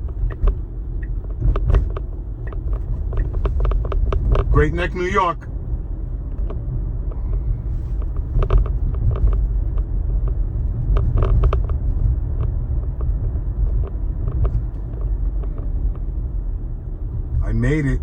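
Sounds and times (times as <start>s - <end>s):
road and tyre rumble in car cabin: 0.0s - 18.0s.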